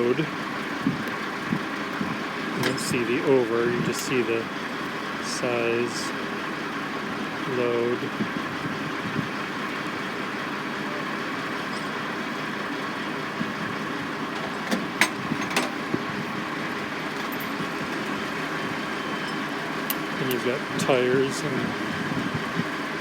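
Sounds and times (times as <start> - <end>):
construction machinery engines: 0.0 - 23.0.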